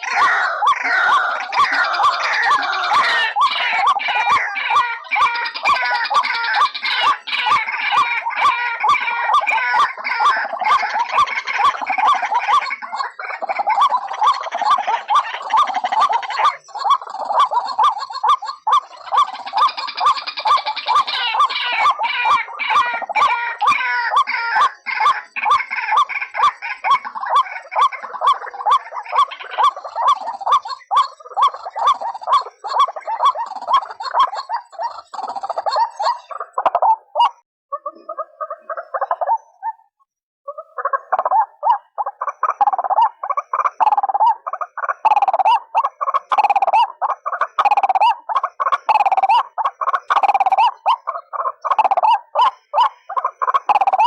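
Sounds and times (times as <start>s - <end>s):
waterhens calling harshly: 0.0s - 39.8s, 40.5s - 54.0s.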